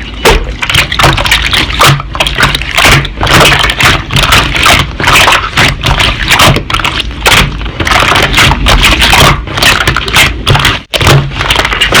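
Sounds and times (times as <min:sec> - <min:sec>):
slime squelching and popping: 0:00.3 - 0:12.0.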